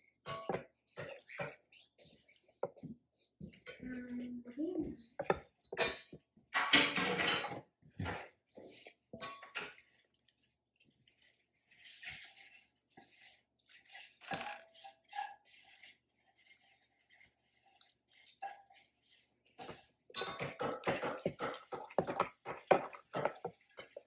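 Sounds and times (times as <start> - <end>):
spoon stirring batter in bowl: 0.0 - 24.0.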